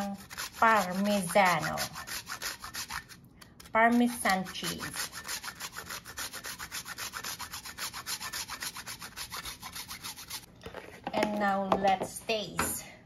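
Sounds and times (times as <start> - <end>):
cheese grating on metal grater: 0.0 - 10.5.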